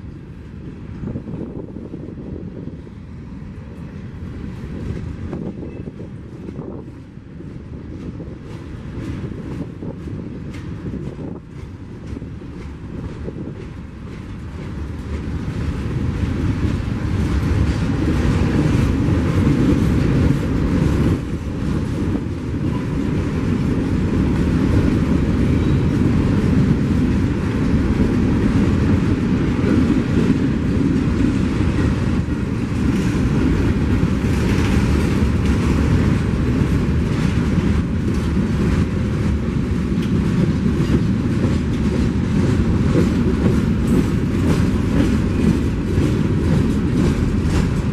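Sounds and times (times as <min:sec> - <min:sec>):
train wheels rumbling on rails: 0:00.0 - 0:47.9
clicks of wheels on rail joints: 0:03.5 - 0:47.9.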